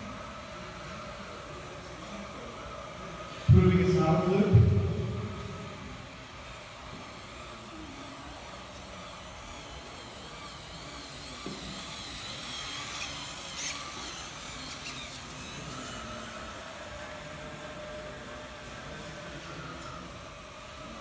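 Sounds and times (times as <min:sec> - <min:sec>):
small electric motor whining: 0:00.0 - 0:21.0
steady hum of hall: 0:00.0 - 0:21.0.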